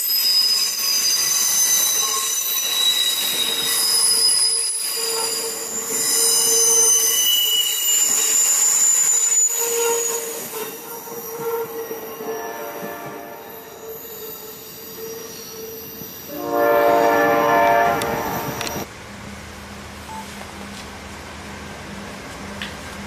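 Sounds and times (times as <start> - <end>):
train wheels squealing: 0.0 - 18.9
train rumbling: 0.0 - 23.0.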